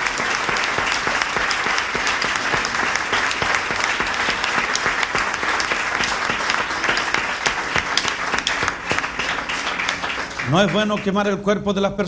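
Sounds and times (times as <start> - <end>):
congregation applauding: 0.0 - 11.6.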